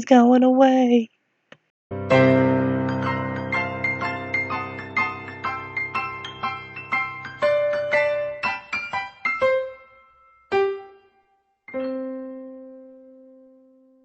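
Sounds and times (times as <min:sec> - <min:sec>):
solo piano: 0:01.9 - 0:14.0.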